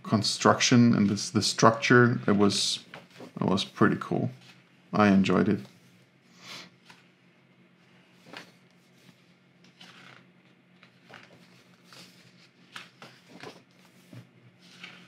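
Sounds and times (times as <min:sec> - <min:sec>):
steady low hum: 0:00.0 - 0:15.0
book pages turning: 0:00.9 - 0:06.0, 0:06.7 - 0:07.2, 0:08.1 - 0:15.0.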